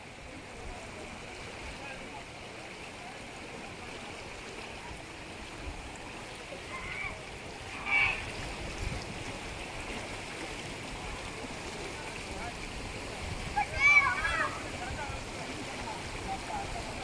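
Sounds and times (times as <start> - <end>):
water rushing along channel: 0.0 - 17.0.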